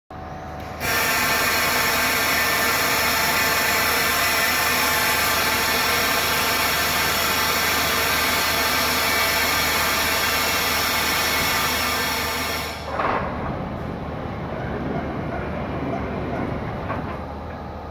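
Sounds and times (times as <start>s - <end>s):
machine whine-hum: 0.1s - 17.9s.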